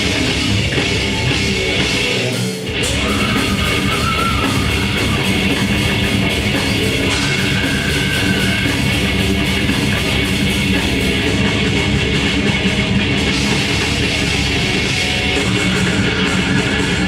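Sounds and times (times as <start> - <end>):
distorted electric guitar: 0.0 - 17.0
grindcore band playing live: 0.0 - 17.0.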